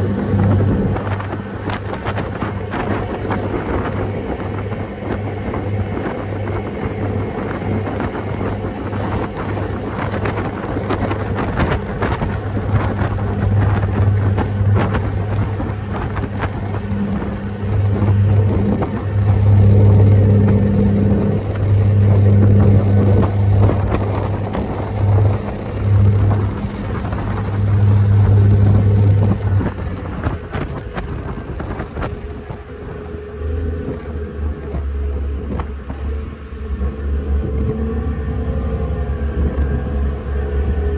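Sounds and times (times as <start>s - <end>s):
ferry engines humming: 0.0s - 40.9s
water rushing past hull: 0.0s - 40.9s
wind buffeting microphone: 0.0s - 40.9s.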